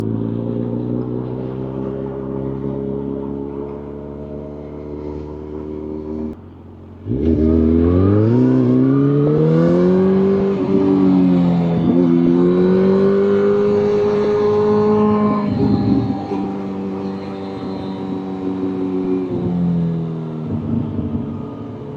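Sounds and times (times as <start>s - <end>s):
motorcycle engine revving: 0.0s - 21.9s.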